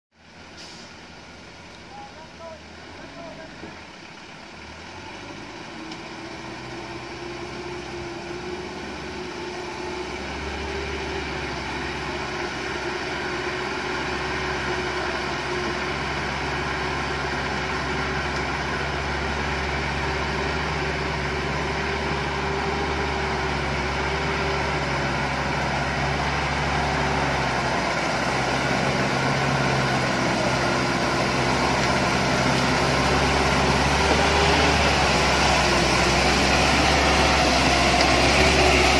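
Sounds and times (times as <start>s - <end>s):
truck diesel engine running: 0.2s - 38.9s.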